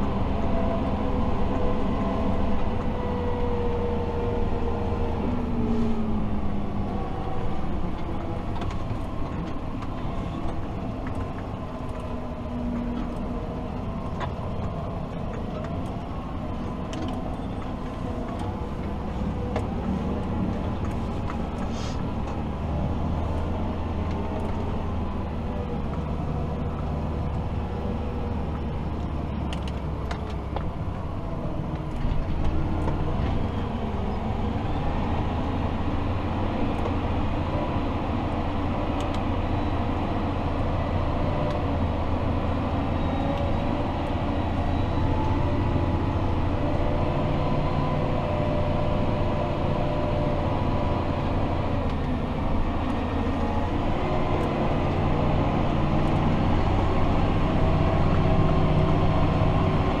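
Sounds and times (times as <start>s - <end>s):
tractor diesel engine drone: 0.0s - 60.0s.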